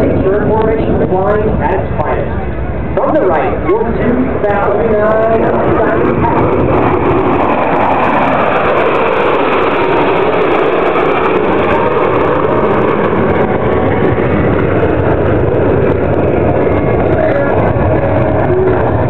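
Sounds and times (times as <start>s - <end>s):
fighter jets flying past: 0.0s - 19.0s.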